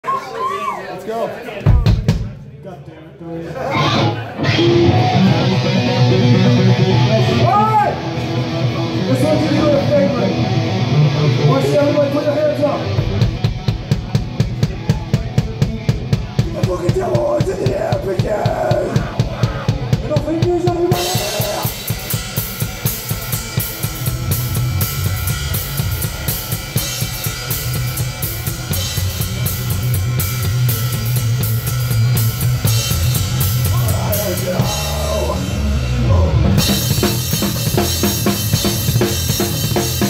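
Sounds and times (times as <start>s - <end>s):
live band playing: 3.5s - 40.0s.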